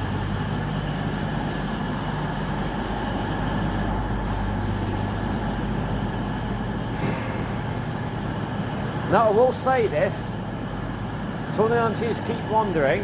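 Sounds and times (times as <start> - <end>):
diesel train engines droning: 0.0 - 13.0.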